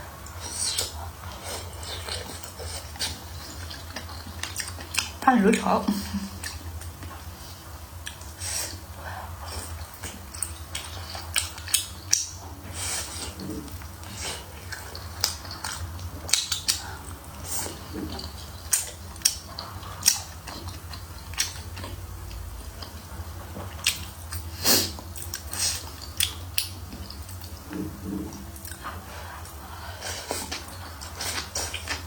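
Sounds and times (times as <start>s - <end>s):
steady low hum: 0.0s - 32.0s
person chewing food: 0.1s - 5.6s, 6.2s - 32.0s.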